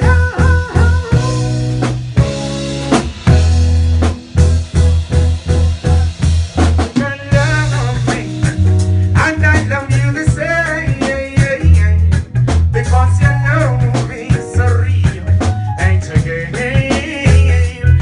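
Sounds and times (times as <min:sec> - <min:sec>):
drum kit hits: 0:00.0 - 0:18.0
higher melody line: 0:00.0 - 0:18.0
live reggae band: 0:00.0 - 0:18.0
pulsing bass line: 0:00.0 - 0:18.0.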